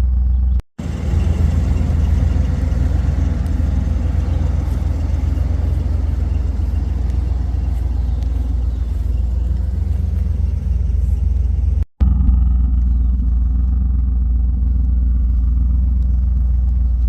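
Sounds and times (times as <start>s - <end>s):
car engine deep rumble: 0.0s - 17.0s.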